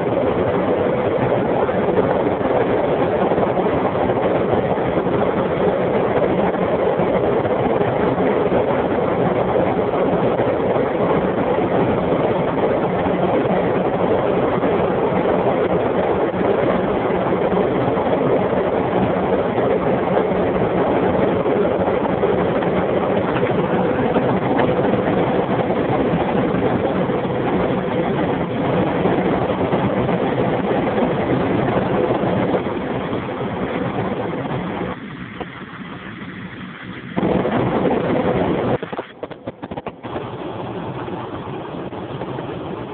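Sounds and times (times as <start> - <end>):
car engine hum: 0.0 - 42.9
wind and road roar: 0.0 - 42.9.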